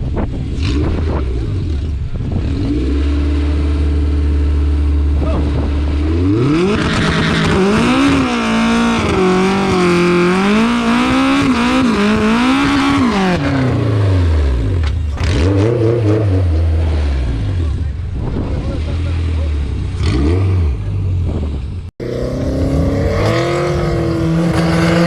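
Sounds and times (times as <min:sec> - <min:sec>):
car engine revving: 0:00.5 - 0:25.0.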